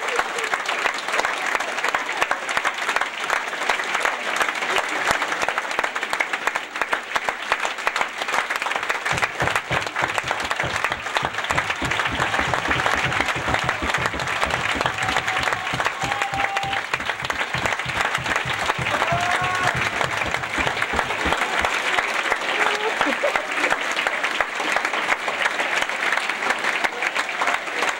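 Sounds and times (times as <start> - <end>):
audience applauding: 0.0 - 27.9
close claps: 0.0 - 27.9.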